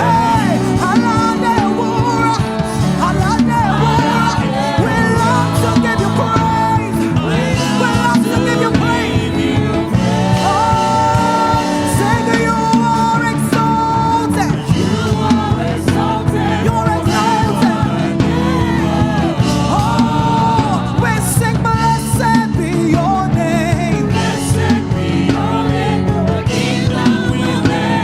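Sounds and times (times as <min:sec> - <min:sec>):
full band playing: 0:00.0 - 0:28.0
voices singing: 0:00.0 - 0:28.0.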